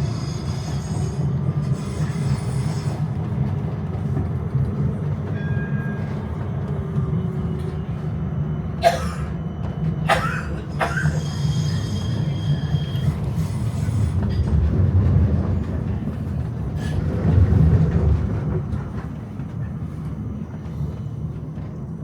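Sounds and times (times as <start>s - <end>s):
tram rumbling: 0.0s - 22.0s.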